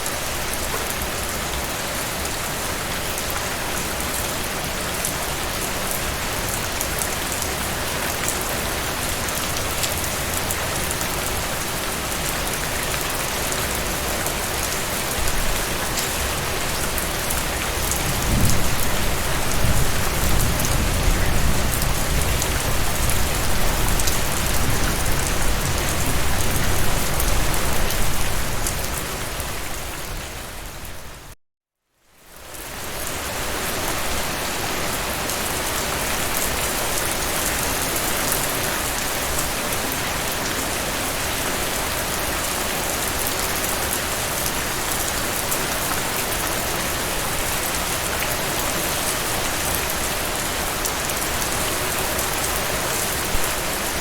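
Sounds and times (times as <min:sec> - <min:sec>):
steady rain falling: 0:00.0 - 0:31.4, 0:32.1 - 0:54.0.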